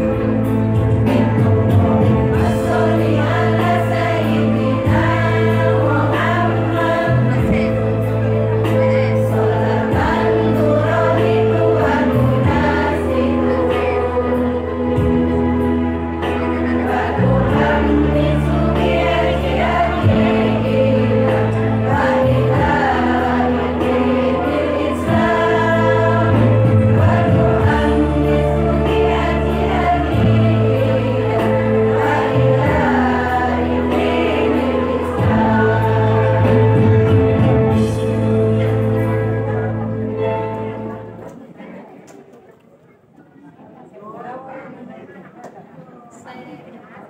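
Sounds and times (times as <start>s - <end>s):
women's choir singing: 0.0s - 39.8s
held bass notes: 0.0s - 41.3s.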